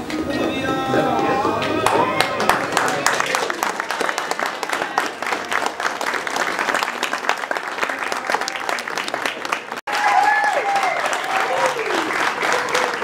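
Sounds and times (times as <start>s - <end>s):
crowd applauding: 0.4s - 13.0s.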